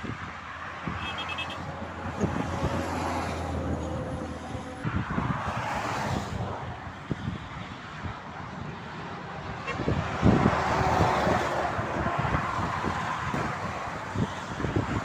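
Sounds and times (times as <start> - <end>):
traffic engine drone: 0.0 - 15.0
vehicles rushing past: 0.0 - 15.0.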